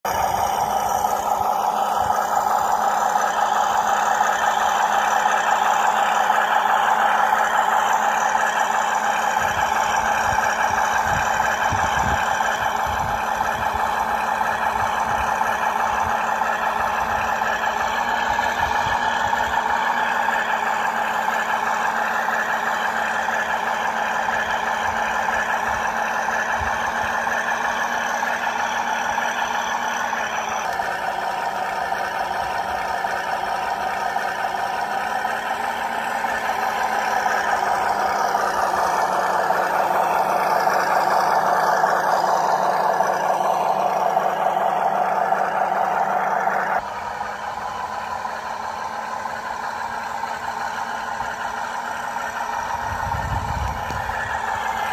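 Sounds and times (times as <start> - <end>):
toy truck motor whining: 0.0 - 54.9.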